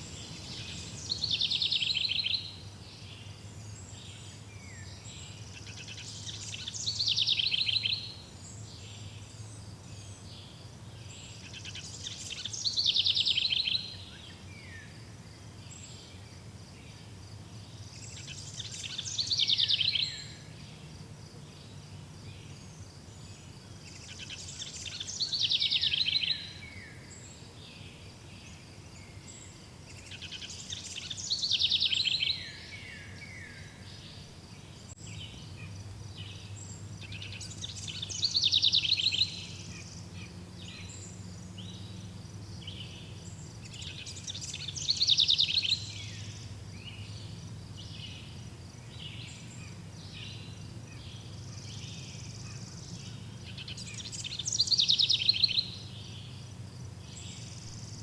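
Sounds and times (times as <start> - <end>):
songbird singing with trill: 0.0 - 58.0.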